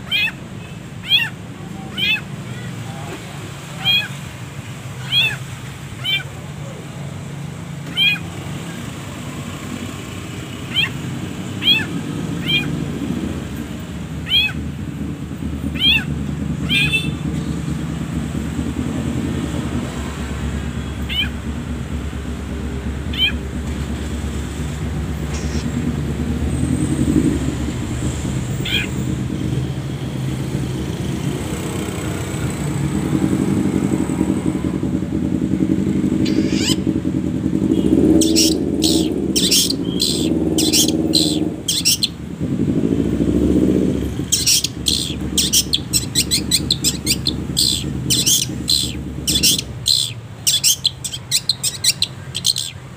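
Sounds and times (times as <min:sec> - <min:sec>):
bird chirping and chattering: 0:00.0 - 0:04.3, 0:05.0 - 0:06.8, 0:07.8 - 0:24.0, 0:24.8 - 0:33.4, 0:35.9 - 0:36.9, 0:37.6 - 0:42.3, 0:43.2 - 0:52.9
low engine-like hum: 0:00.0 - 0:52.9.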